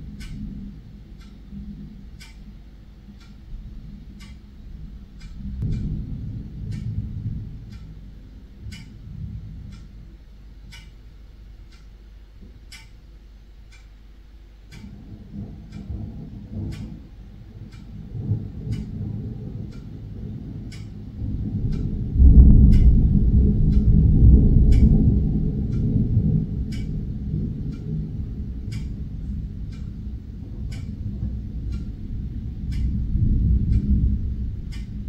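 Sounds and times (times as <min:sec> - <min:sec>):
steady regular ticking: 0:00.0 - 0:35.0
rolling thunder: 0:03.0 - 0:10.8, 0:14.7 - 0:35.0.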